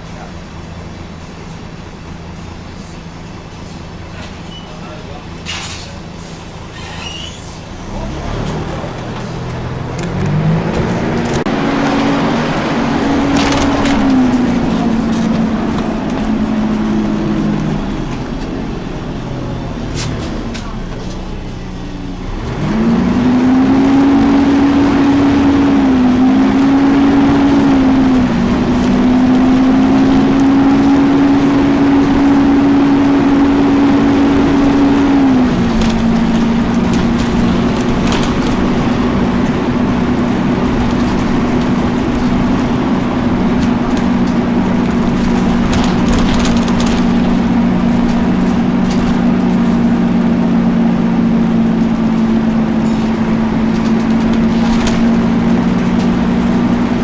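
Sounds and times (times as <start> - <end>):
bus cooling fan hum: 0.0 - 57.0.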